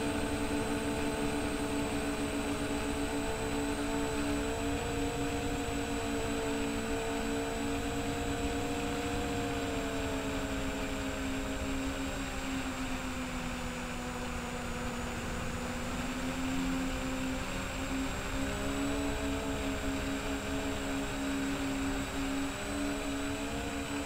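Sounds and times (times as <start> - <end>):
quadcopter propellers humming: 0.0 - 24.0.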